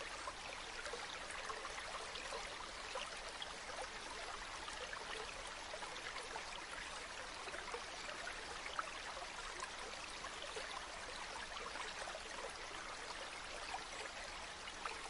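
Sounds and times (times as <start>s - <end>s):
water trickling in a stream: 0.0s - 15.0s.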